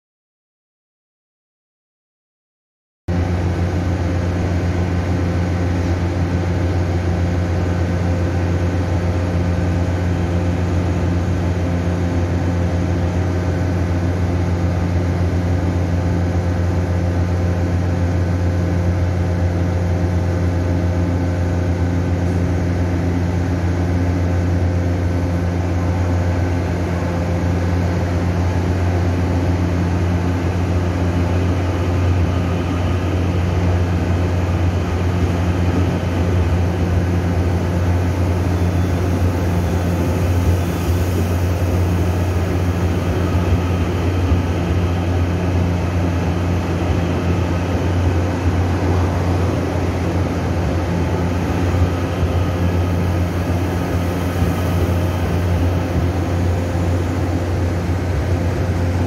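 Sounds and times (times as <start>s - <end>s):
electric train equipment humming: 3.1s - 59.0s
train pulling out: 3.1s - 59.0s.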